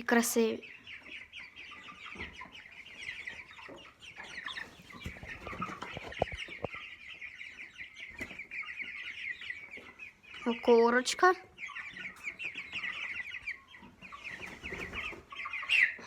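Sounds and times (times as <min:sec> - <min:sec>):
chickens chirping: 0:00.0 - 0:16.0.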